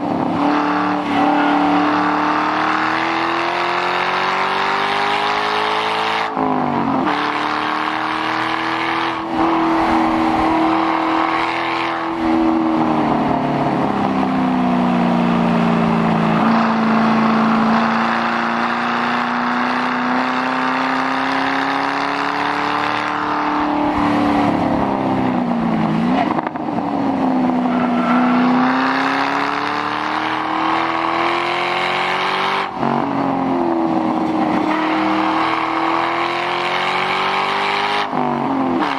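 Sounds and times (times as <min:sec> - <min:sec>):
car engine revving hard: 0:00.0 - 0:38.9.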